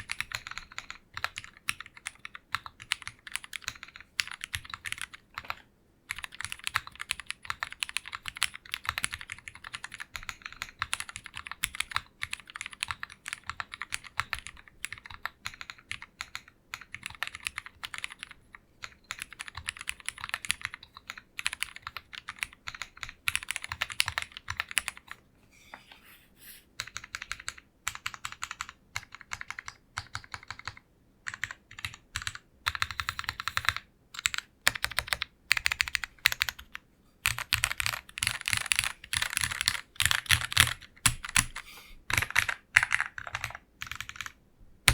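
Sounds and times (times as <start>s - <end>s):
typing on mechanical keyboard: 0.0s - 25.2s, 26.8s - 44.9s.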